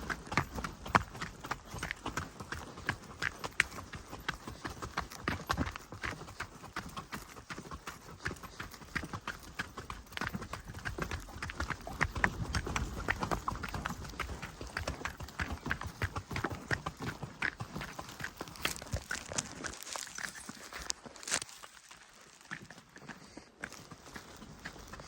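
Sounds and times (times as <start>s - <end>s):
footsteps on forest path: 0.0s - 25.0s.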